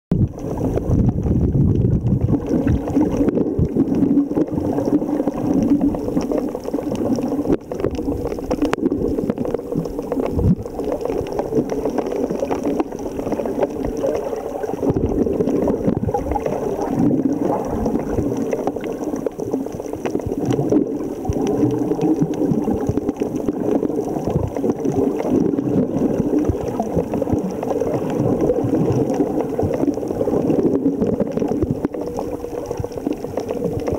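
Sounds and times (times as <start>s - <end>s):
muffled underwater water rush: 0.1s - 33.9s
sharp underwater clicks: 0.1s - 33.9s.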